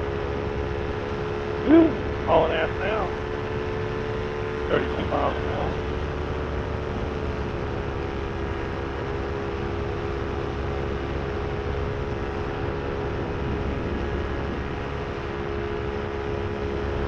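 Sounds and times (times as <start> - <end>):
paramotor engine droning: 0.0 - 17.0
propeller hum: 0.0 - 17.0.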